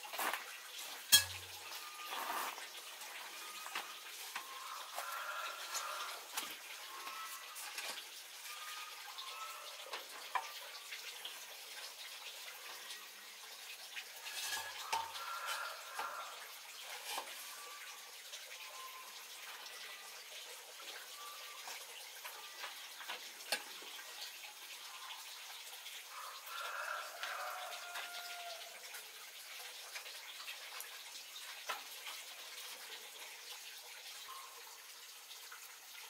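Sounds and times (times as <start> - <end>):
steady watery hiss: 0.0 - 36.0.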